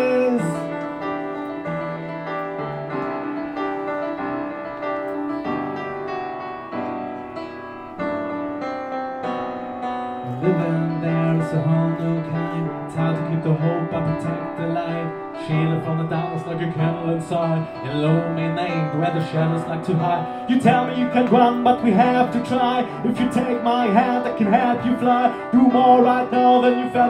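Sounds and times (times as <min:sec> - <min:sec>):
piano playing held chords: 0:00.0 - 0:27.0.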